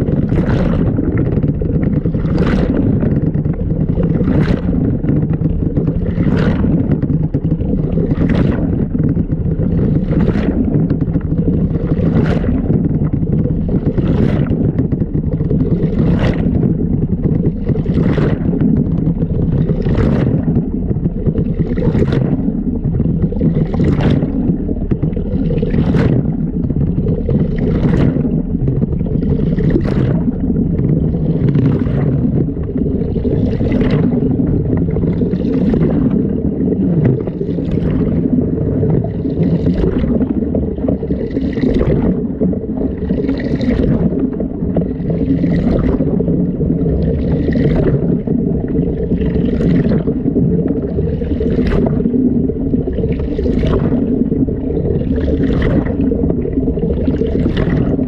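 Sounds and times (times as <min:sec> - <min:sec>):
washing machine rumble: 0:00.0 - 0:58.0
water sloshing in drum: 0:00.0 - 0:58.0.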